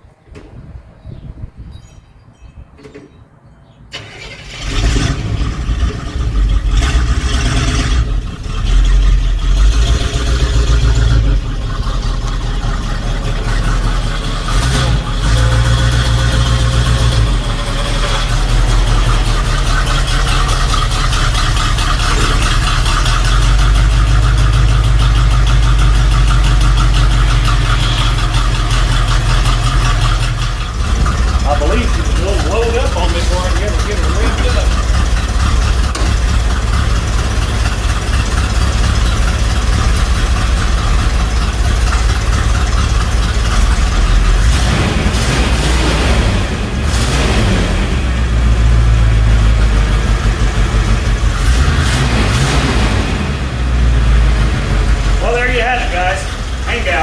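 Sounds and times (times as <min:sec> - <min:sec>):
truck engine starting and idling: 0:02.6 - 0:57.0.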